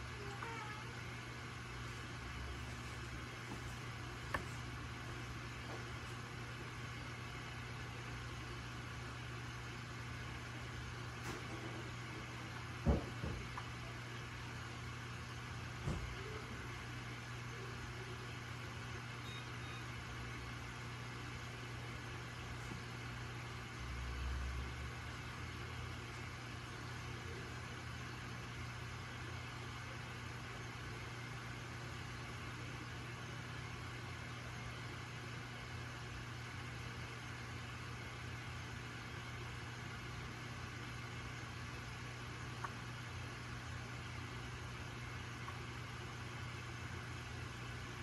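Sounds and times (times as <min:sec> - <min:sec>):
aquarium equipment hum and hiss: 0:00.0 - 0:48.0.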